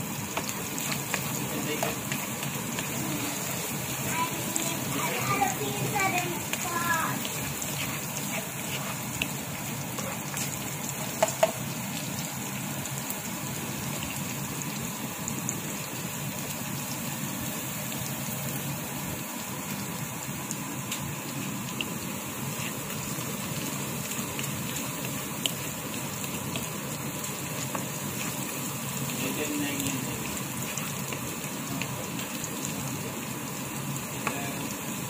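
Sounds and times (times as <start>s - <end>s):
onion and garlic sizzling in oil: 0.0s - 35.0s.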